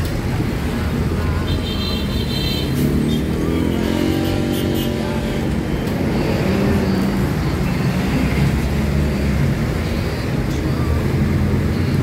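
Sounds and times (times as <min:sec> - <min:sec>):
road noise: 0:00.0 - 0:12.0
vehicle engine hum: 0:00.0 - 0:12.0.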